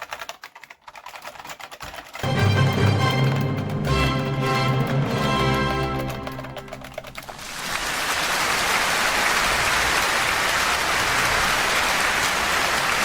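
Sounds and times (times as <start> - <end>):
crowd applauding: 2.2 - 13.0.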